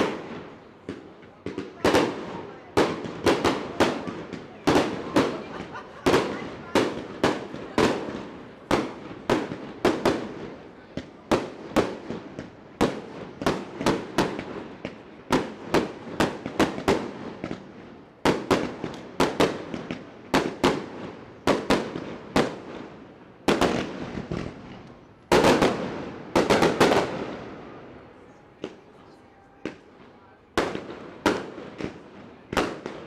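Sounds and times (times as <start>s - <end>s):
fireworks bangs: 0.0s - 33.0s.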